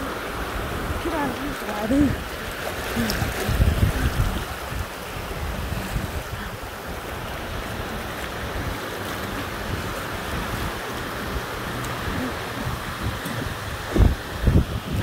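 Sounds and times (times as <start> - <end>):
surf washing up a beach: 0.0 - 15.0
wind buffeting microphone: 0.0 - 15.0.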